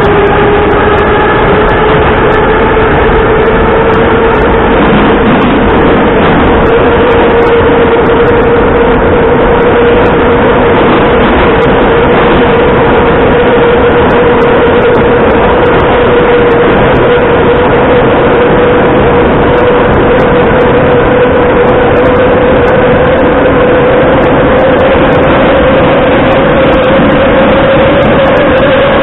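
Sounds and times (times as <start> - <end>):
steady whine: 0.0 - 29.0
train wheels rumbling on rail: 0.0 - 29.0.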